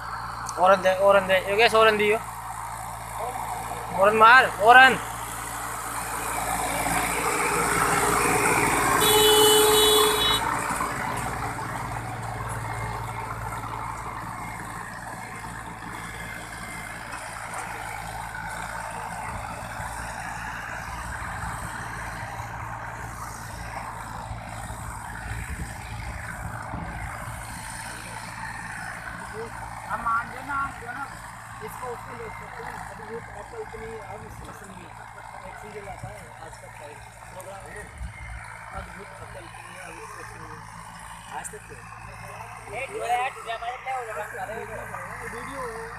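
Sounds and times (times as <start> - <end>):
diesel tractor engine running: 0.0 - 45.9.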